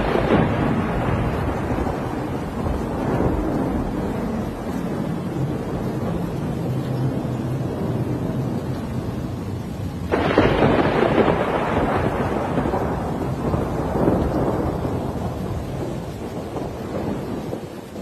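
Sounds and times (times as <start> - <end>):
heavy rainstorm: 0.0 - 18.0
thunderclap rolling: 0.0 - 18.0.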